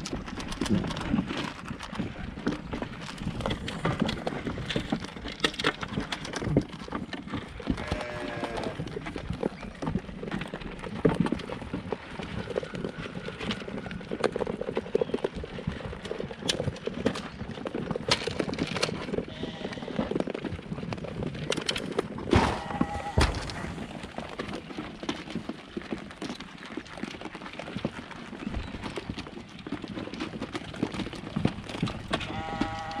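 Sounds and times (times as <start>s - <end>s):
goats crunching feed: 0.0s - 33.0s
hooves shuffling on dirt: 0.0s - 33.0s.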